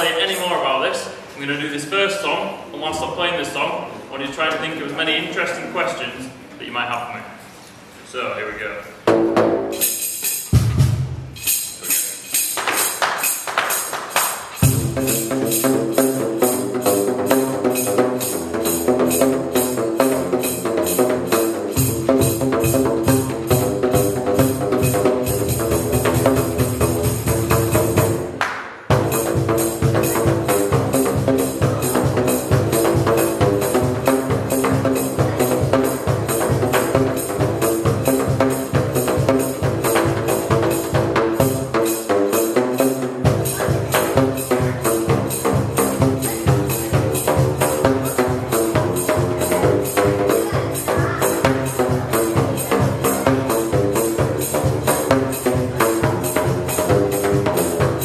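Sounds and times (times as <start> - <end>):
pipe drums slapped with flip-flops: 9.1 - 11.6, 12.4 - 58.0.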